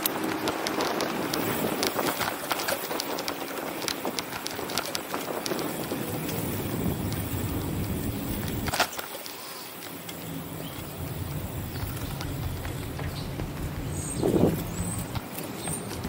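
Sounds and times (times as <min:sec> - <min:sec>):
bicycle rolling on pavement: 0:00.0 - 0:16.0
small rattles and ticks: 0:00.0 - 0:16.0.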